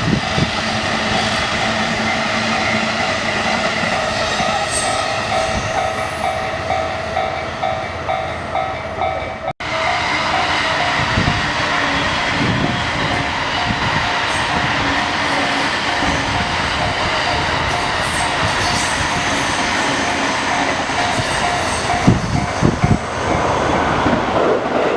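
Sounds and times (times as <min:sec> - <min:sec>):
train wheels rumbling on rails: 0:00.0 - 0:24.9
level crossing warning bell: 0:00.4 - 0:11.3, 0:12.6 - 0:23.8.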